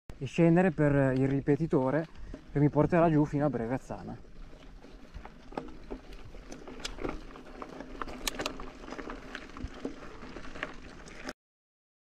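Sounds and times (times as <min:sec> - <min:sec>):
bike clicks and rattles: 0:00.2 - 0:11.3
tyres crunching on gravel: 0:00.2 - 0:11.3.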